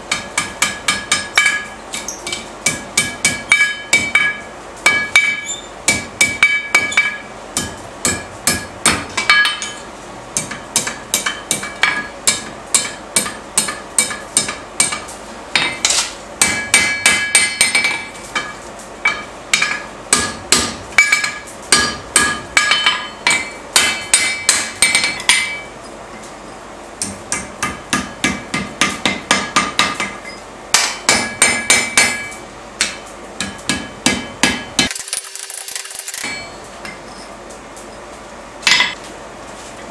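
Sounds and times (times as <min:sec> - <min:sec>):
hammer striking hot steel on anvil: 0:00.0 - 0:25.7, 0:27.0 - 0:35.3, 0:36.2 - 0:37.0, 0:38.6 - 0:39.0.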